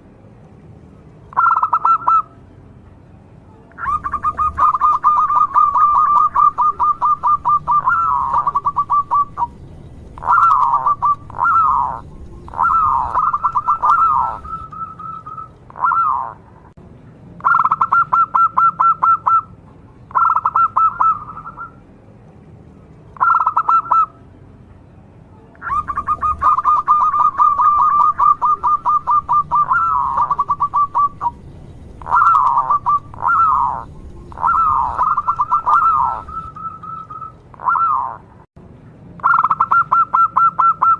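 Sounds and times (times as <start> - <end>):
dove cooing trills: 1.3 - 2.4, 3.7 - 16.7, 17.4 - 19.5, 20.1 - 21.8, 23.2 - 24.2, 25.6 - 38.3, 39.2 - 40.9.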